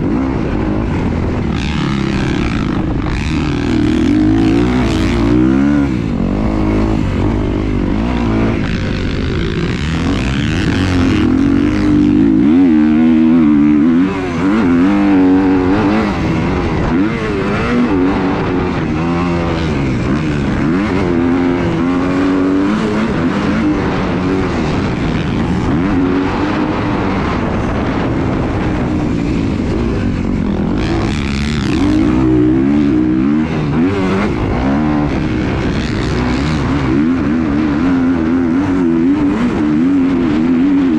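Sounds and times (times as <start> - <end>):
engines revving: 0.0 - 40.9
steady rushing noise: 0.0 - 40.9.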